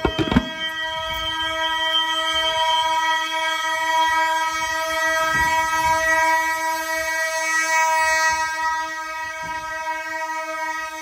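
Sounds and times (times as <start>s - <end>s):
fire alarm horns: 0.0s - 11.0s.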